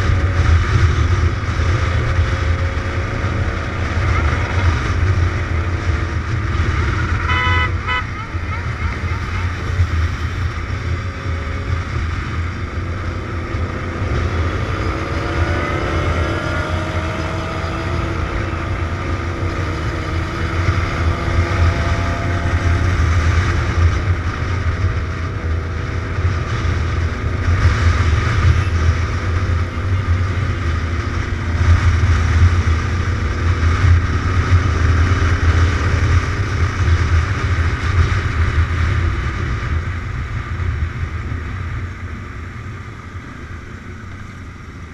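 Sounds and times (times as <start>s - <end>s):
motorcycle engine running: 0.0s - 44.9s
wind rumble on microphone: 0.0s - 44.9s.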